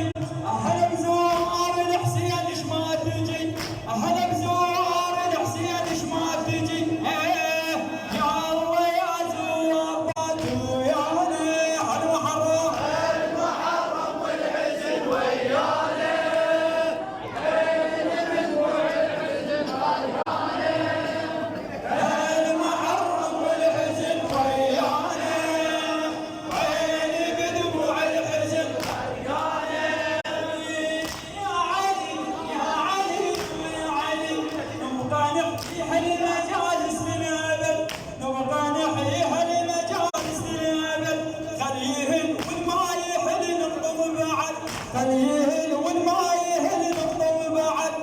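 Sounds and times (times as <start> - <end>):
man chanting a lament: 0.0 - 17.1, 20.6 - 48.0.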